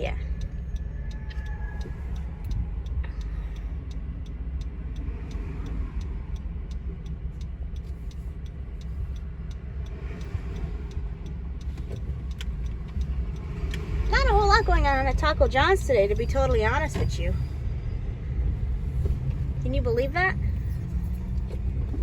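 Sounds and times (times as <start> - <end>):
engine and road rumble: 0.0 - 22.0
turn signal ticking: 0.0 - 22.0.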